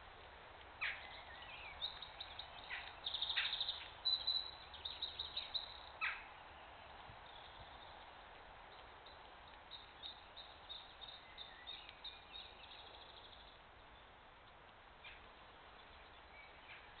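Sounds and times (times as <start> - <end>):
faint birds chirping: 0.0 - 17.0
steady background hiss: 0.0 - 17.0.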